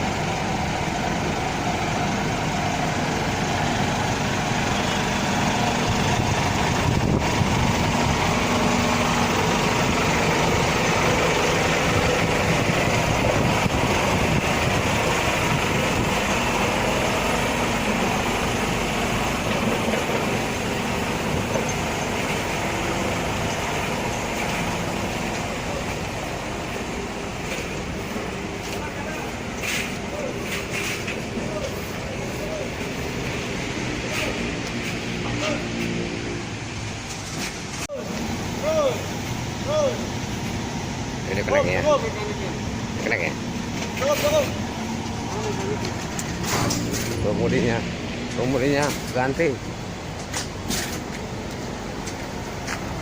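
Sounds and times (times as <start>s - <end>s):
bus engine running: 0.0s - 53.0s
road noise: 0.0s - 53.0s.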